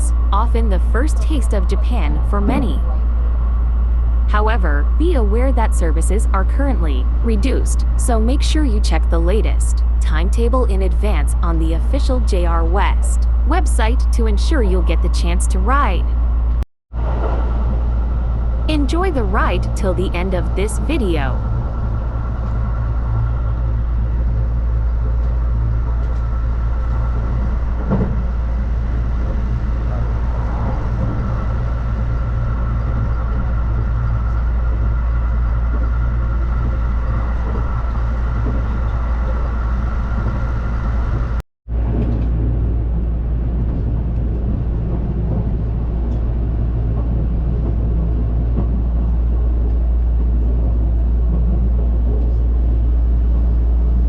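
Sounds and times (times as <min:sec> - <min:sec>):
faint steady whine: 0:00.0 - 0:54.0
train rumble inside carriage: 0:00.0 - 0:54.0.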